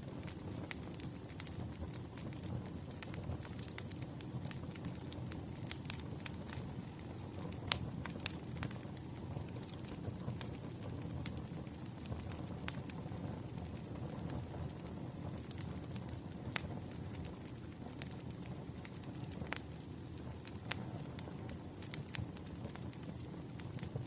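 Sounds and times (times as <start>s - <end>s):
firewood crackling and popping: 0.0s - 24.0s
low rumble of flames: 0.0s - 24.0s.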